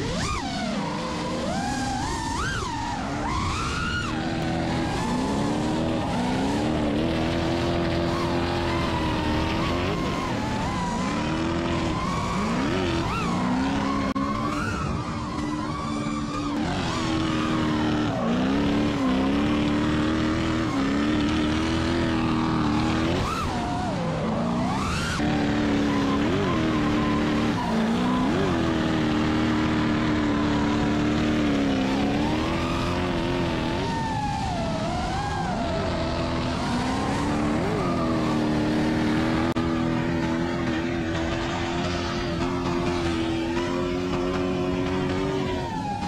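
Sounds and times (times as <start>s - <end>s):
car engine revving: 0.0s - 46.0s
tire squeal: 0.0s - 46.0s.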